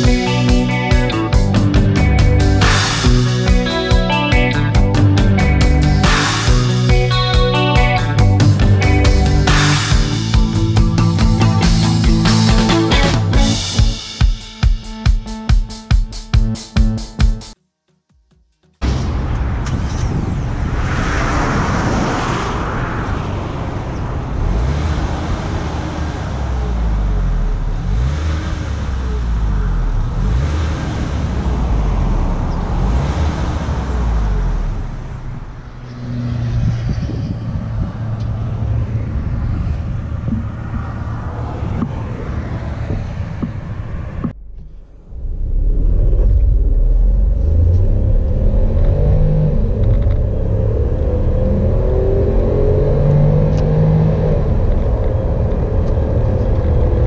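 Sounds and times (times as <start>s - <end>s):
car engine revving: 0.0s - 14.0s, 20.7s - 57.0s.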